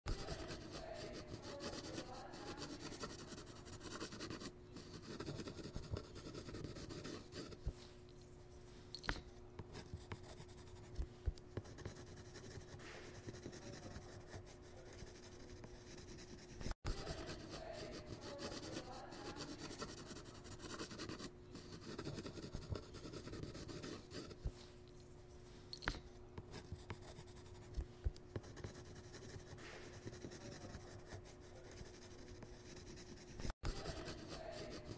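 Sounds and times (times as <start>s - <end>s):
pencil scratching on paper: 0.1s - 7.8s, 9.6s - 24.6s, 26.4s - 34.9s
faint steady hum: 0.1s - 34.9s.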